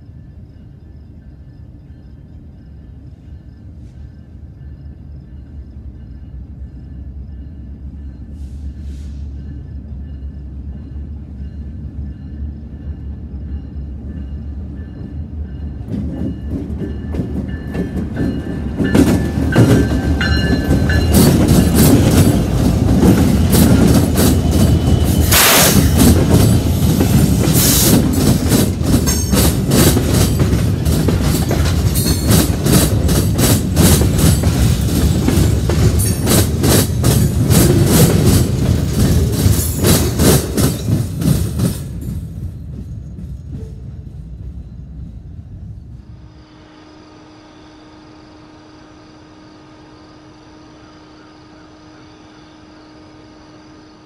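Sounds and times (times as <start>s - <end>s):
diesel locomotive rumble: 0.0s - 46.4s.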